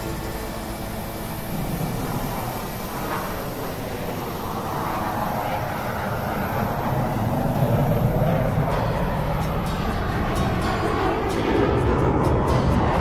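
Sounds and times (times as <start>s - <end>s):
jet fighter engine rushing: 0.0s - 13.0s.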